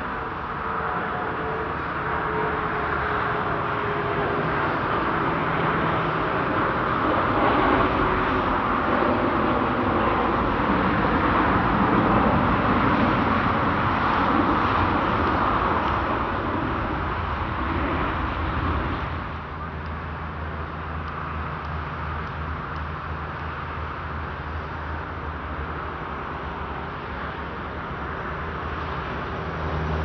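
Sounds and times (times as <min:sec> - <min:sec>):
jet engines rushing: 0:00.0 - 0:30.0.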